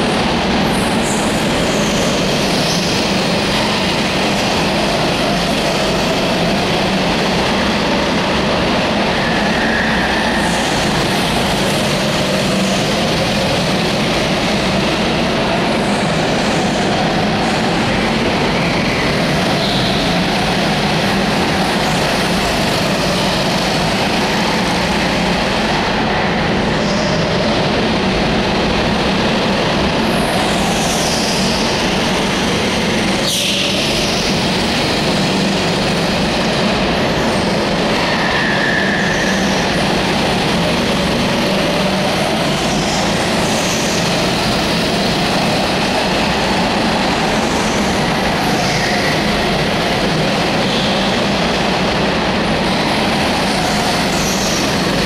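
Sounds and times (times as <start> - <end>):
go-kart engines droning: 0.0 - 55.0.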